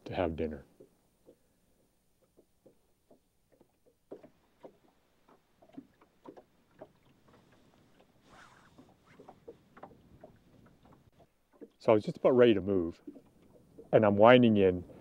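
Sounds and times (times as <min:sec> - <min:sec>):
water lapping against hull: 0:00.0 - 0:15.0.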